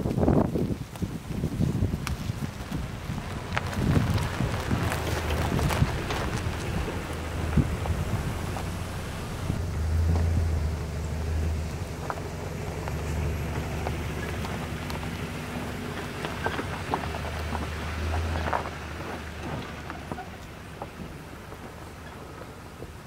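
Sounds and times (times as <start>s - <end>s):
tyres crackling on loose dirt: 0.0s - 23.0s
vehicle engine at low speed: 0.0s - 23.0s.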